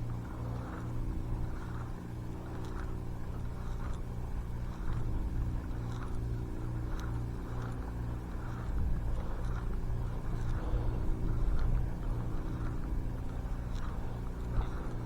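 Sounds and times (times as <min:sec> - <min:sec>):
motor humming with throb: 0:00.0 - 0:15.0.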